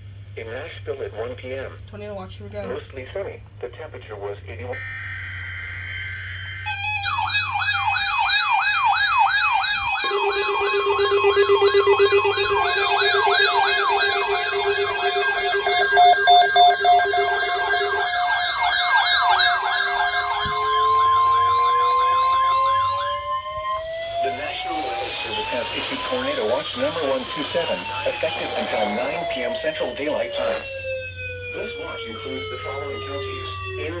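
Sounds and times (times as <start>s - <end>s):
electronic siren yelp: 4.6s - 34.0s
steady alarm tones: 4.6s - 34.0s
slow rising siren wail: 4.7s - 34.0s
steady high tone: 4.7s - 34.0s.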